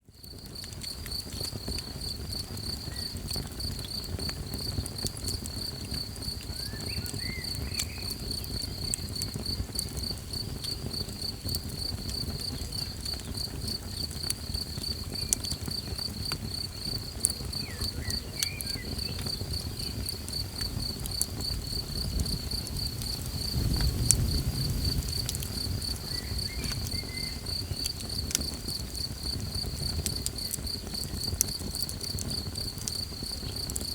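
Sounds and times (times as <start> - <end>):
campfire crackling and popping: 0.0 - 33.9
crickets chirping: 0.1 - 33.9.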